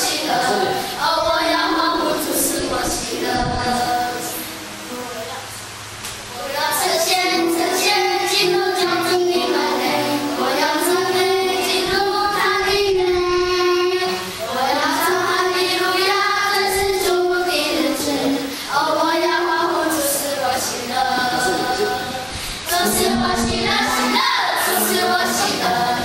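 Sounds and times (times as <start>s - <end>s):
boy singing into a microphone: 0.0s - 5.0s, 6.4s - 26.0s.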